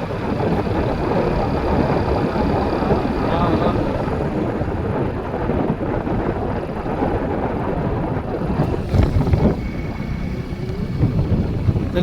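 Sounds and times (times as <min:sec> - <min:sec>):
vehicle engine running: 0:00.0 - 0:12.0
wind rumbling on microphone: 0:00.0 - 0:12.0.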